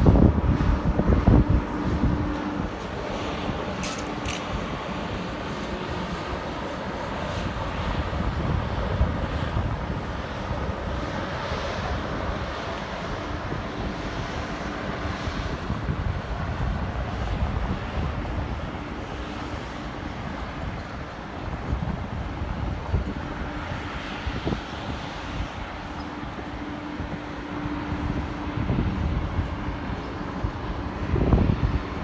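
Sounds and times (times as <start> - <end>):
train passing: 1.7 - 32.0.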